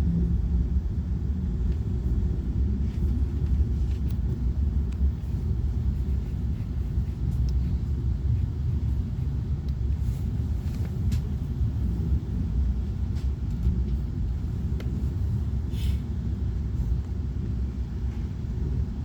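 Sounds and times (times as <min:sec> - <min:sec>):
train rumbling in motion: 0:00.0 - 0:19.0.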